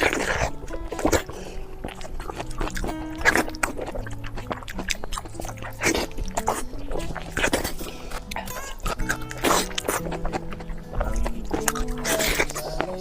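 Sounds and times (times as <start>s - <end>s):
background music with held notes: 0.0s - 13.0s
biting and chewing: 0.0s - 13.0s.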